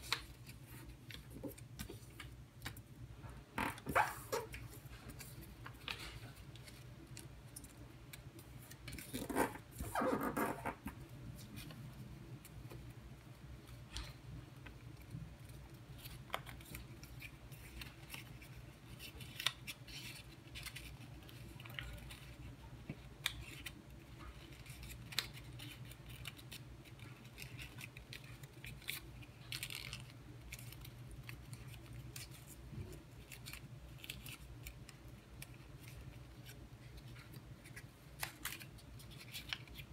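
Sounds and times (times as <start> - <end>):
paper folding and crinkling: 0.0 - 2.9, 3.7 - 39.9.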